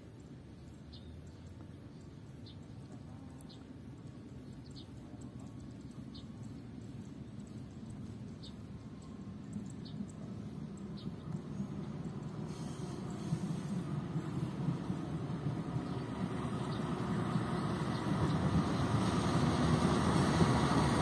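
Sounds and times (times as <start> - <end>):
distant diesel locomotive rumble: 0.0 - 21.0
bird chirping: 0.1 - 19.4.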